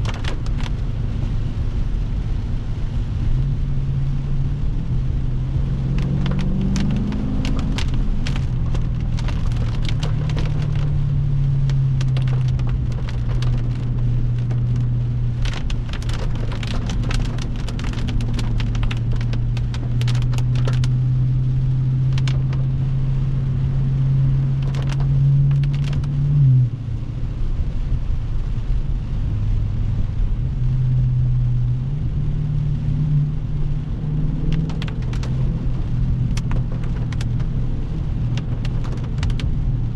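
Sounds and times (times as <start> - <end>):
car engine cruising: 0.0 - 39.9
raindrops hitting car: 0.0 - 39.9.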